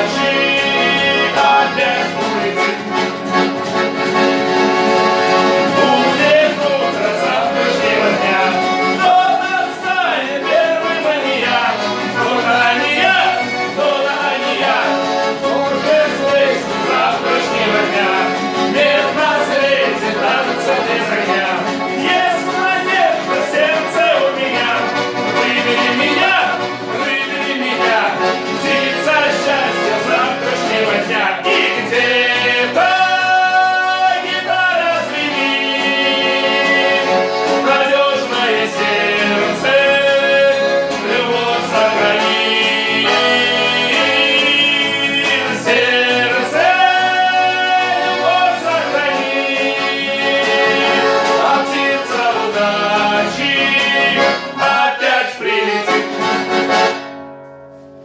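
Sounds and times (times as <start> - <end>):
person singing: 0.0 - 3.4, 4.6 - 56.2
button accordion: 0.0 - 57.5
guitar: 0.0 - 58.0.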